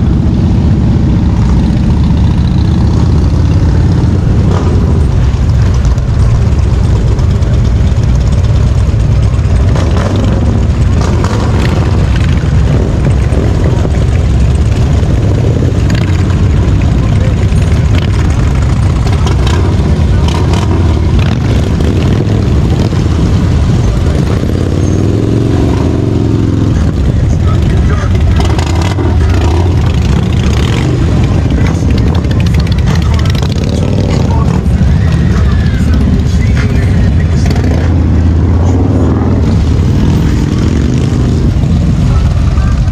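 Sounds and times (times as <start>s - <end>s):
motorcycle engines rumbling: 0.0s - 42.9s.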